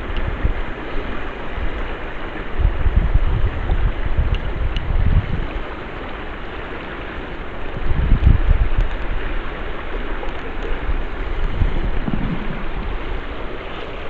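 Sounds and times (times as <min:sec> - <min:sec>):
flowing river water: 0:00.0 - 0:14.0
wind buffeting microphone: 0:00.0 - 0:14.0.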